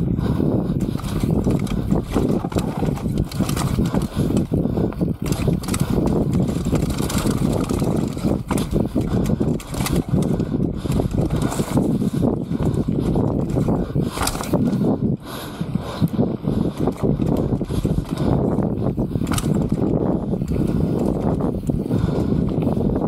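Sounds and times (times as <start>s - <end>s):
bike tyre roar: 0.0s - 23.0s
wind rushing on microphone: 0.0s - 23.0s
bike knocking and rattling: 0.2s - 23.0s.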